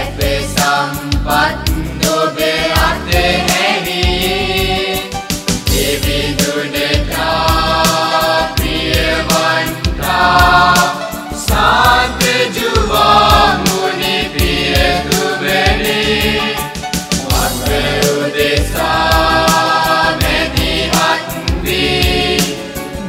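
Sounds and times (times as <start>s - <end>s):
choir singing a hymn: 0.0s - 23.0s
musical accompaniment: 0.0s - 23.0s.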